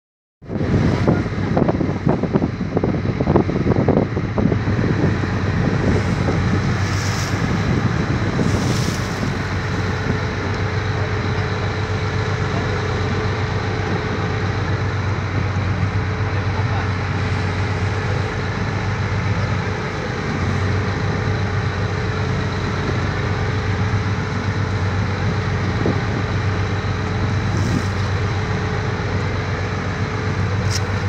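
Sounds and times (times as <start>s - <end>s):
low engine hum: 0.4s - 31.0s
wind buffeting microphone: 0.4s - 31.0s.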